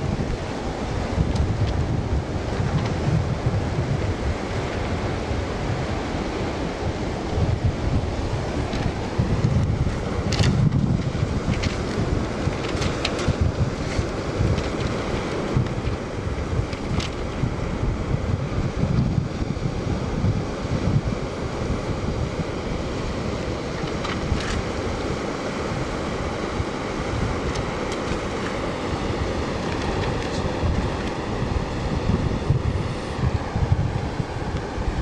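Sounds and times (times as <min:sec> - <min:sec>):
small waves breaking on sand: 0:00.0 - 0:35.0
wind buffeting microphone: 0:00.0 - 0:35.0.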